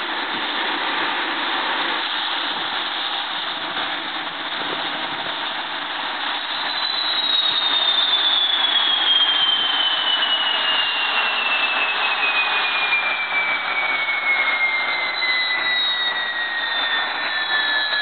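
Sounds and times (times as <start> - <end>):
gas turbine jet rush and whine: 0.0 - 18.0.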